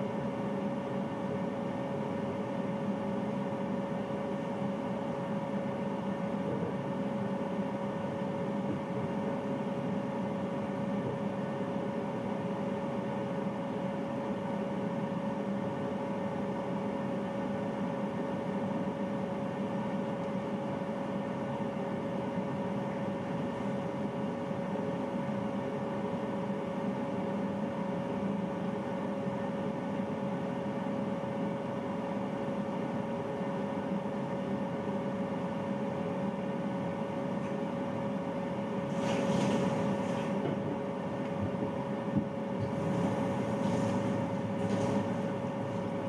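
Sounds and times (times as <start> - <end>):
water heater humming: 0.0 - 46.0.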